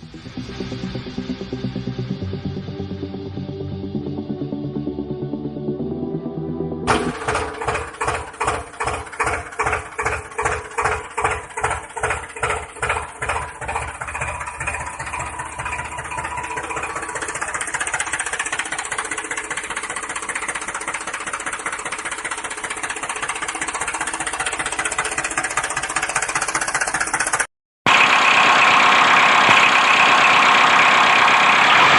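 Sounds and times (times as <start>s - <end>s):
tractor engine throbbing: 0.0s - 31.9s.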